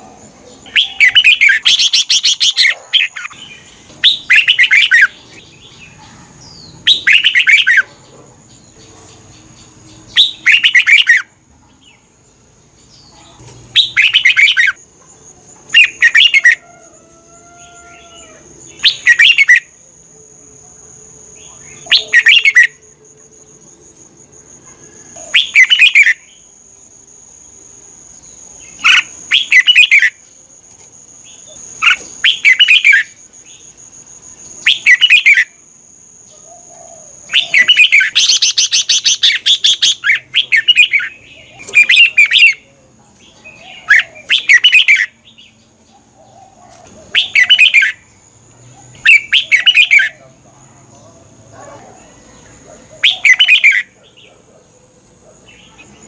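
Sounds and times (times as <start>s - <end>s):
bulbul singing: 0.0s - 16.8s, 17.5s - 50.3s, 51.0s - 54.4s.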